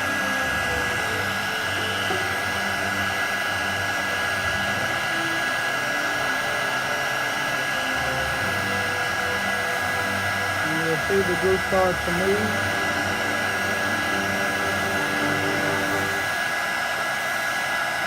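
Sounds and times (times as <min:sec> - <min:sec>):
heat gun blowing: 0:00.0 - 0:18.0.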